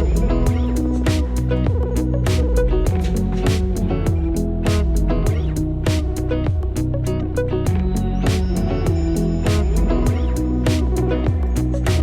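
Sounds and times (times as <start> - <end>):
guitar instrumental with drums and bass: 0.0 - 12.0.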